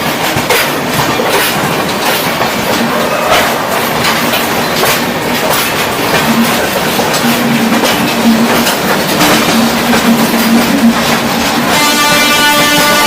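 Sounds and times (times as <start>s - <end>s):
train rumble: 0.0s - 13.0s
wheels clacking over rail joints: 0.0s - 13.0s.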